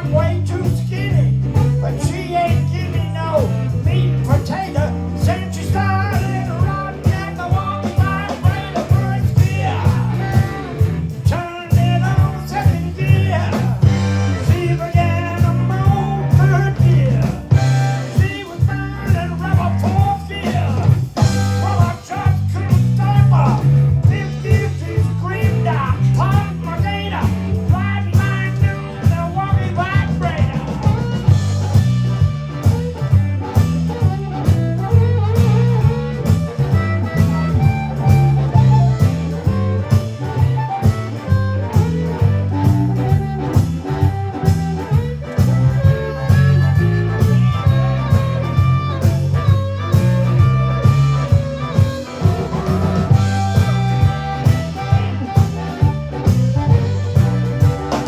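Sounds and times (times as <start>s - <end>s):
bass: 0.0s - 58.0s
lead guitar bending notes: 0.0s - 58.0s
steady beat: 0.0s - 58.0s.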